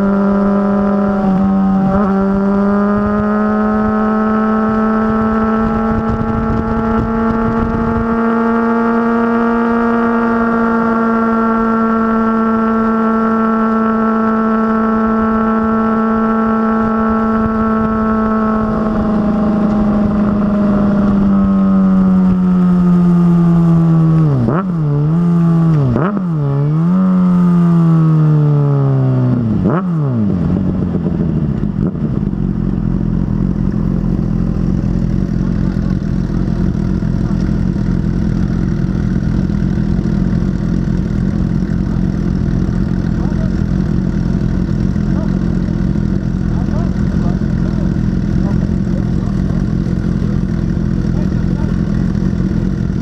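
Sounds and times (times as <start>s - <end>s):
motorcycle engine slowing down: 0.0s - 53.0s.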